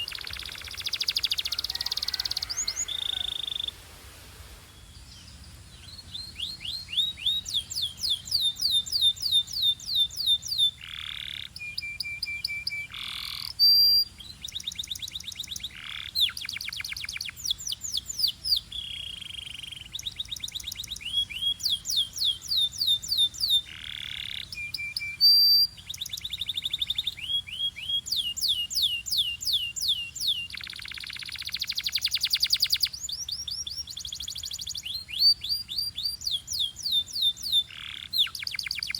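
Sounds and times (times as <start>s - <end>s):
canary singing: 0.0s - 3.8s, 5.3s - 38.9s.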